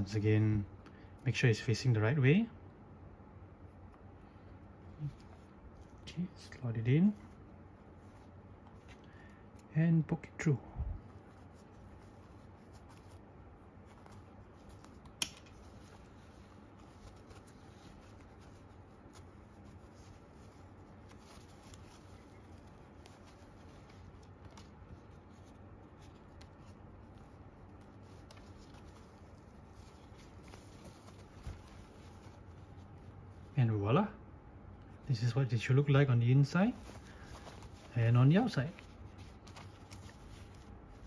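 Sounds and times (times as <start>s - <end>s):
fabric and plastic handling: 3.6s - 9.8s, 10.4s - 33.6s, 34.7s - 41.0s.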